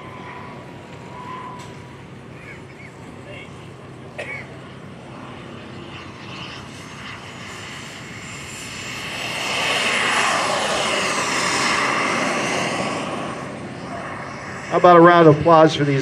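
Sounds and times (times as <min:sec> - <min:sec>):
model jet turbine whining: 0:00.0 - 0:16.0.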